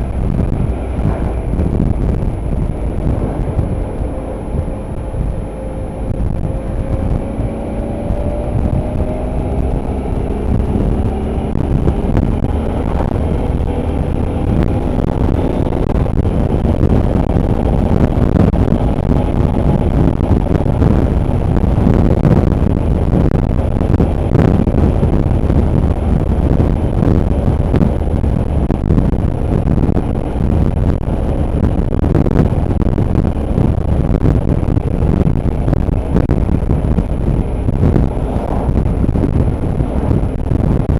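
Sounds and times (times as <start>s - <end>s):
motorbike engine accelerating: 0.0s - 40.9s
wind rush on microphone: 0.0s - 40.9s.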